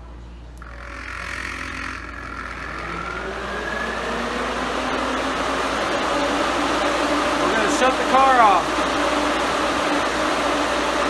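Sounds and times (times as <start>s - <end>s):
electric cooling fans spinning up: 0.0s - 11.0s.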